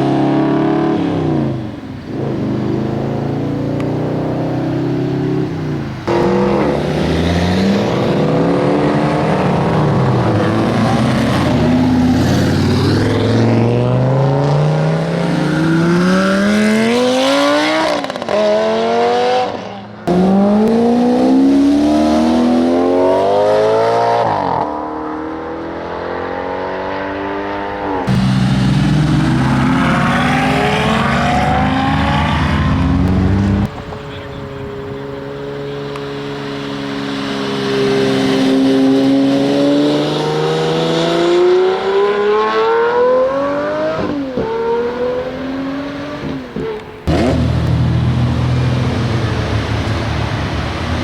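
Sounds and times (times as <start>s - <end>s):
sports car engine accelerating: 0.0s - 51.0s.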